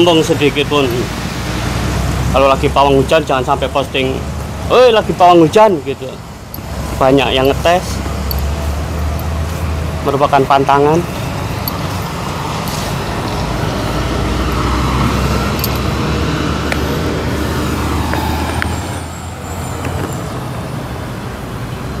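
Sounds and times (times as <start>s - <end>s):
heavy vehicle engine rumbling: 0.0s - 22.0s
road traffic: 0.0s - 22.0s.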